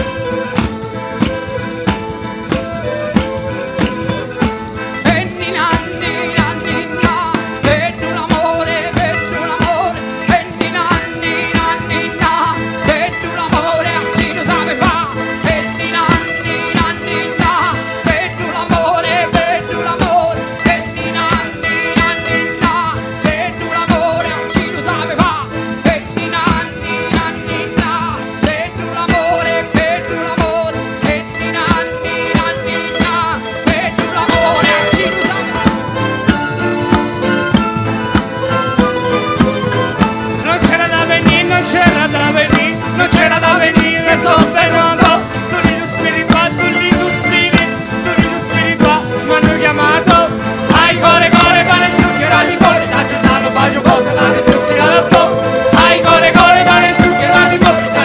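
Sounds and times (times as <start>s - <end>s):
flute: 0.0s - 58.0s
folk band playing dance tune: 0.0s - 58.0s
plucked strings: 0.0s - 58.0s.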